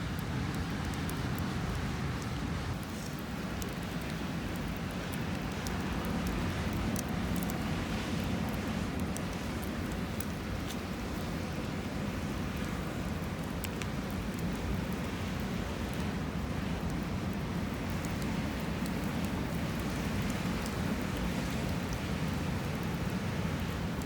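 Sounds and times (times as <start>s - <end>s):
campfire crackling: 0.0s - 24.0s
fire pops and snaps: 0.1s - 24.0s.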